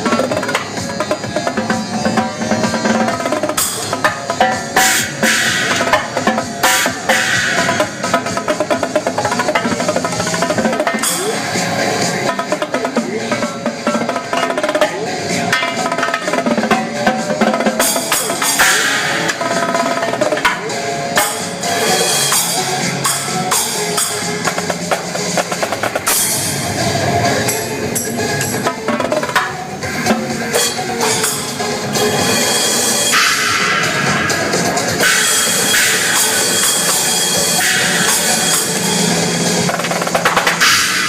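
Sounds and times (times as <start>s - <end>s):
dance music: 0.0s - 41.0s
drum kit playing: 0.0s - 41.0s
cymbal crashes: 1.6s - 12.8s, 17.8s - 41.0s.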